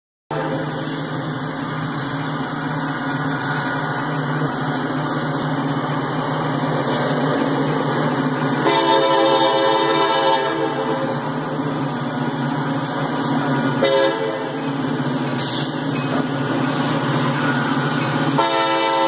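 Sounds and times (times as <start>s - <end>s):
engine idling: 0.3s - 19.0s.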